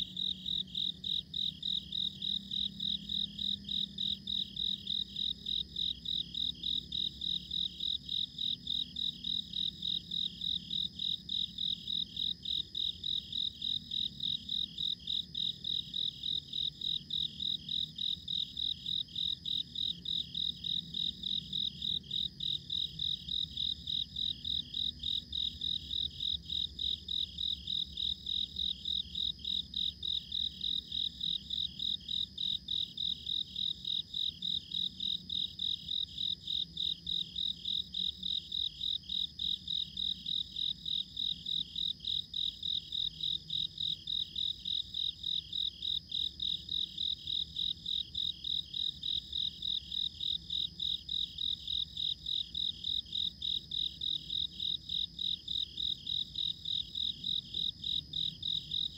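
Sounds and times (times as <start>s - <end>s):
cricket chirping: 0.0s - 58.9s.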